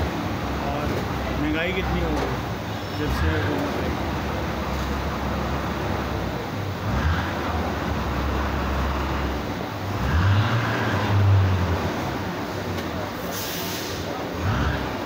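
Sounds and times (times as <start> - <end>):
vehicle engine running: 0.0 - 13.3
street traffic noise: 0.0 - 15.0.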